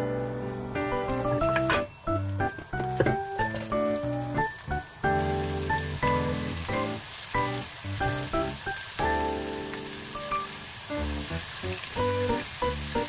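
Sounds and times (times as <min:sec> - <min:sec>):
background music: 0:00.0 - 0:13.0
onion sizzling in hot oil: 0:01.0 - 0:13.0.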